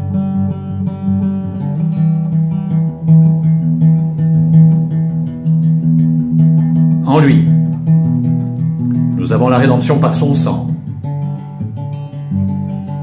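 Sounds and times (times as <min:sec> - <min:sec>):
instrumental music with plucked notes: 0:00.0 - 0:13.0.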